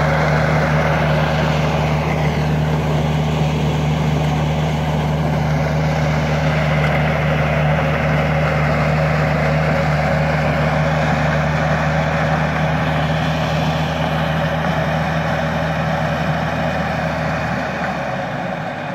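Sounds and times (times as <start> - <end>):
engine hum: 0.0 - 18.9
manure spreader running: 0.0 - 18.9.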